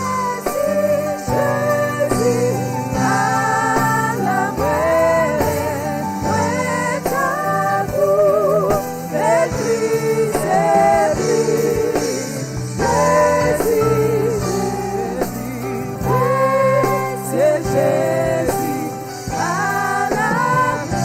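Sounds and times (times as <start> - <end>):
voices singing gospel: 0.0 - 21.0.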